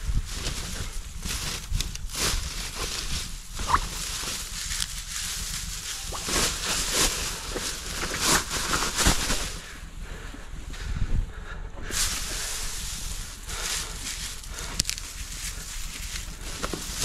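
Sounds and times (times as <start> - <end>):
dry grass rustling and crackling: 0.0 - 11.1, 11.8 - 17.0.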